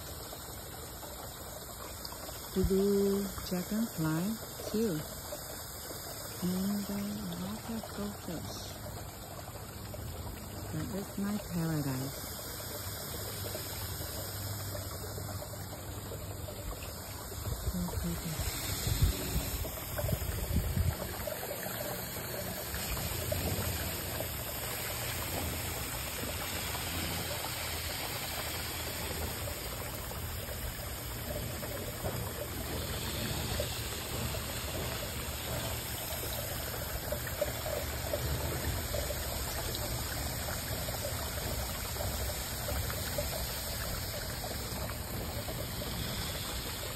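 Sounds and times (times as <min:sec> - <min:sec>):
water trickling into a pond: 0:00.0 - 0:46.9.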